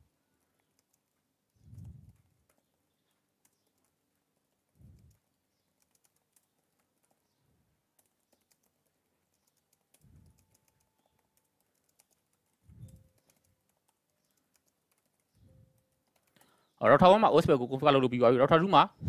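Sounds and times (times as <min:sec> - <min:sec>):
keyboard typing clicks: 0:00.3 - 0:16.8.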